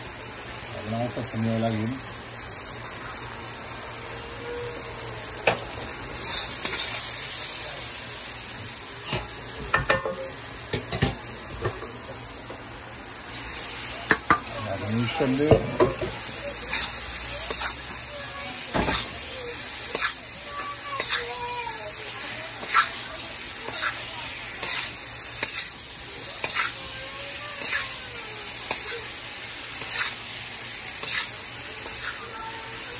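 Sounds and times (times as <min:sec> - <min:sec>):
shrimp sizzling in a pan: 0:00.0 - 0:32.9.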